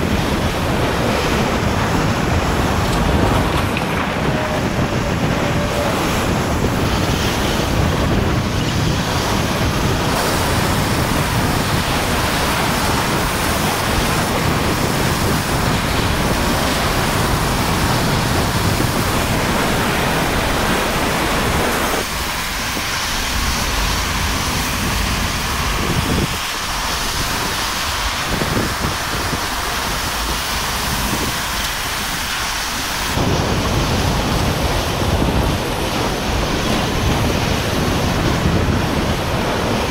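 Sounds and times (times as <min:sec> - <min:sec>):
driving rain: 0:00.0 - 0:39.9
strong wind: 0:00.0 - 0:39.9
wind buffeting microphone: 0:00.0 - 0:39.9.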